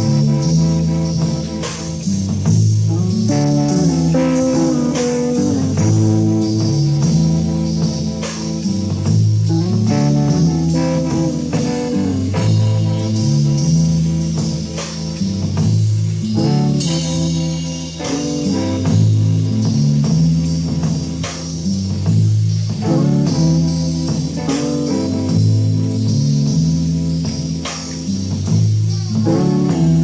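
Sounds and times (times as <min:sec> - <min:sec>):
live rock band playing: 0:00.0 - 0:30.0
tape hiss: 0:00.0 - 0:30.0.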